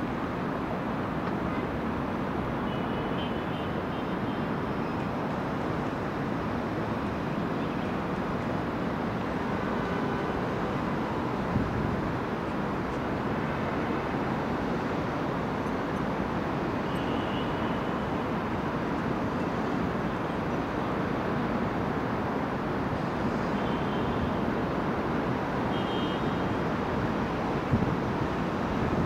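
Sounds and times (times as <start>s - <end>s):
city traffic: 0.0s - 29.0s.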